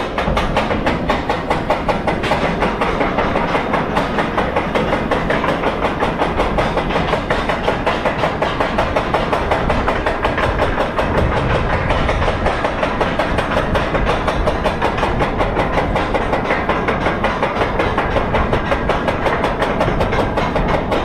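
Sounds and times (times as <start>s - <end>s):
roller coaster clattering on track: 0.0s - 21.0s.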